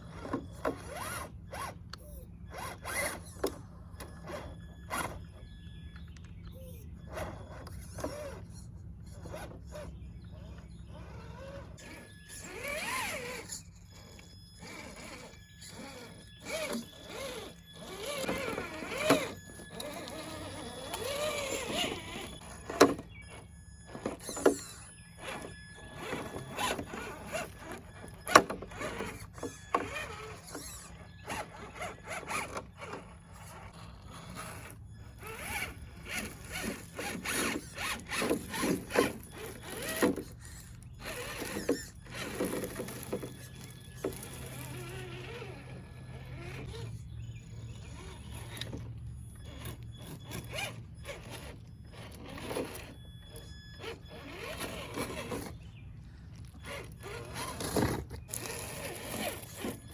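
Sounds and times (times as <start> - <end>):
toy car electric motor whirring: 0.0 - 59.9.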